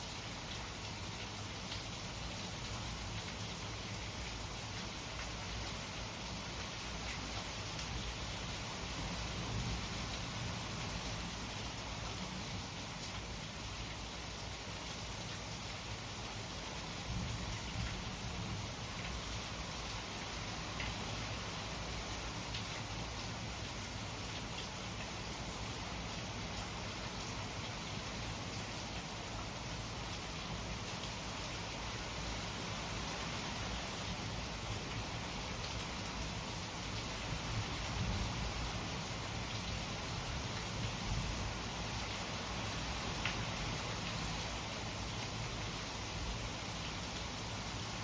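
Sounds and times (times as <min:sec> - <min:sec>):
raindrops pattering on surfaces: 0:00.0 - 0:48.0
steady rain hiss: 0:00.0 - 0:48.0.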